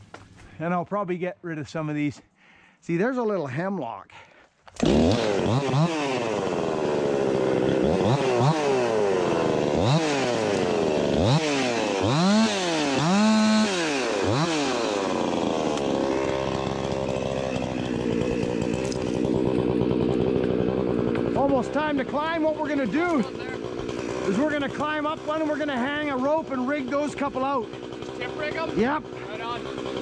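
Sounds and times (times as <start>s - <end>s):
chainsaw revving: 4.7s - 30.0s.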